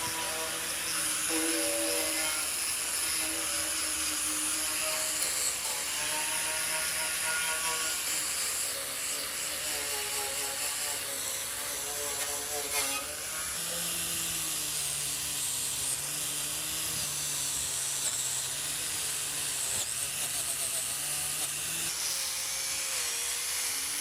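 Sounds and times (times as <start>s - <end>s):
power tool motor running: 0.0s - 24.0s.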